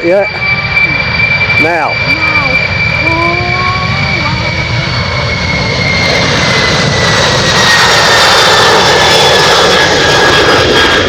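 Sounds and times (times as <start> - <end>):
high jet whine: 0.0 - 11.0
jet engines roaring: 0.0 - 11.0.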